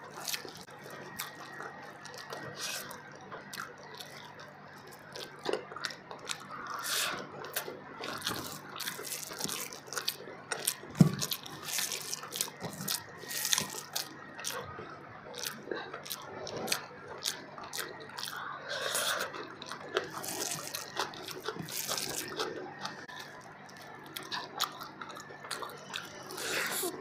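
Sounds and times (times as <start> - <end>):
rice squishing: 0.0 - 27.0
wet chewing and lip-smacking: 0.0 - 27.0.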